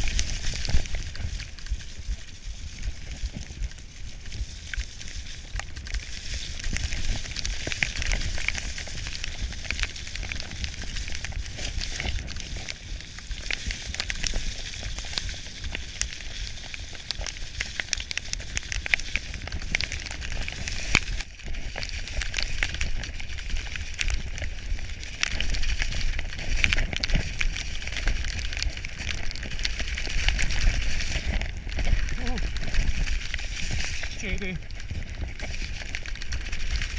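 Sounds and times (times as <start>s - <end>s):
tyres hissing over gravel: 0.0s - 36.9s
bike clicking and rattling: 4.3s - 34.1s, 34.7s - 36.9s.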